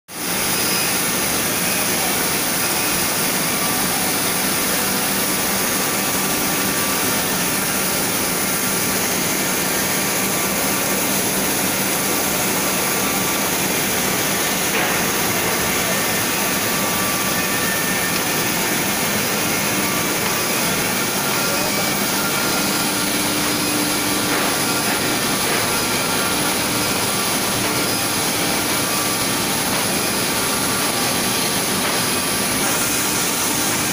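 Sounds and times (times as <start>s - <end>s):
roller conveyor machine hum: 0.2s - 33.9s.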